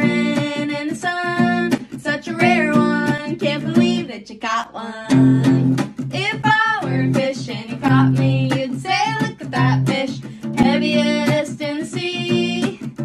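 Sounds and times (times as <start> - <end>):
acoustic guitar: 0.0 - 13.0
person singing: 0.0 - 13.0.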